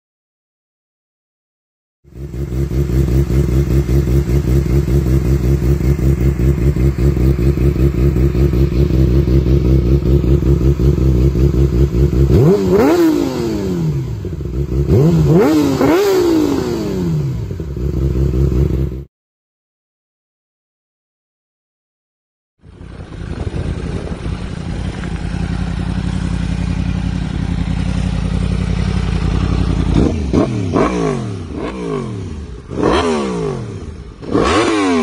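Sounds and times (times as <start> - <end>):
motorcycle engine idling and revving: 2.0 - 19.1, 22.6 - 35.0.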